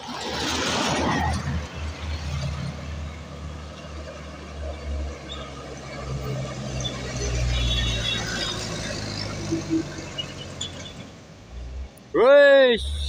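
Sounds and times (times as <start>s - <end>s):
truck diesel engine passing: 0.1s - 11.8s.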